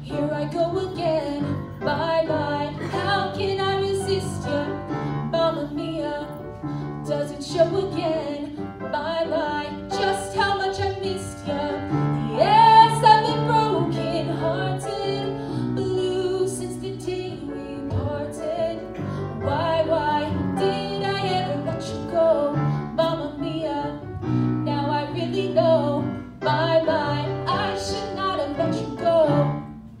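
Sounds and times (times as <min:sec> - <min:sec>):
woman singing with vibrato: 0:00.0 - 0:29.6.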